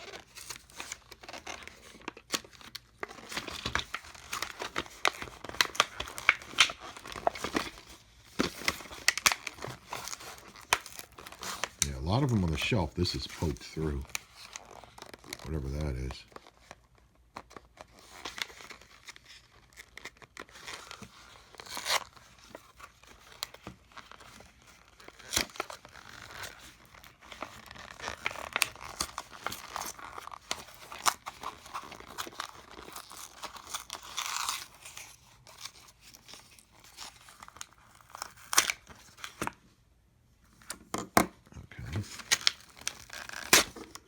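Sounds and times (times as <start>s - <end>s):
packaging tearing and crinkling: 0.0s - 39.5s, 41.8s - 44.0s.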